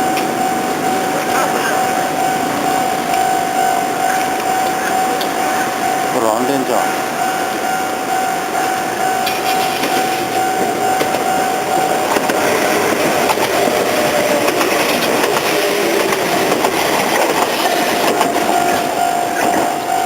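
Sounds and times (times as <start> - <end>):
crossing warning bell ringing: 0.0 - 20.0
electric train passing: 0.0 - 20.0
wheels clacking over rail joints: 0.0 - 20.0.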